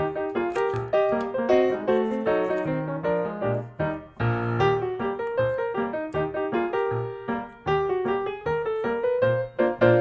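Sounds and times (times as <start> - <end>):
light piano melody: 0.0 - 10.0.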